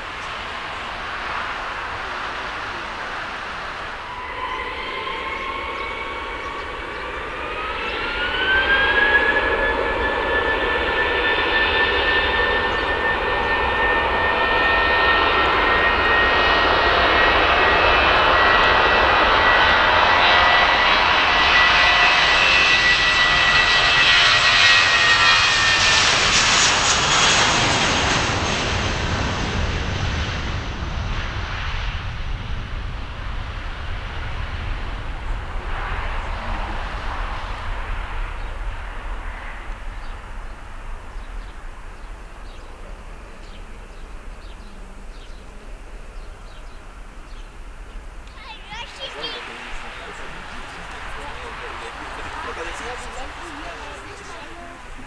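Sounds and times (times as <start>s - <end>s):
jet engine whine: 0.0s - 55.0s
loud jet rumble: 0.0s - 55.0s.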